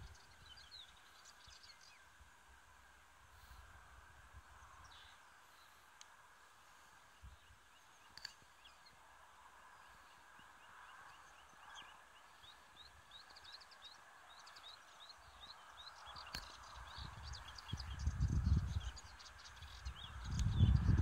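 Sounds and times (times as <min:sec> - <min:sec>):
warbler singing: 0:00.0 - 0:02.3, 0:04.4 - 0:05.9, 0:06.9 - 0:21.0.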